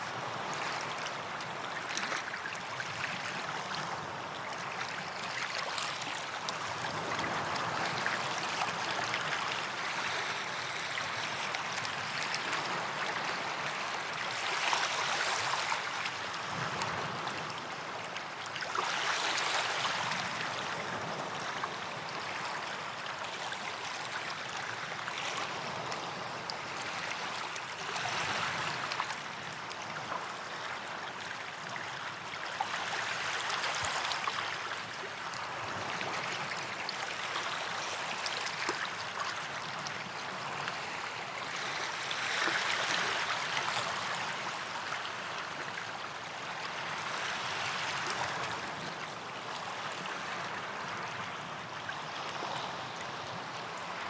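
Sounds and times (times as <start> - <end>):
waves washing on sandy beach: 0.0 - 54.0.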